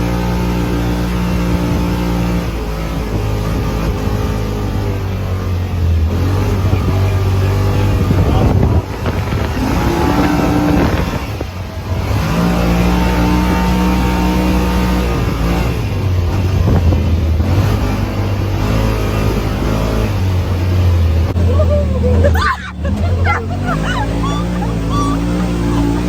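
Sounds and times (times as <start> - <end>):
vehicle engine running under load: 0.0 - 26.0.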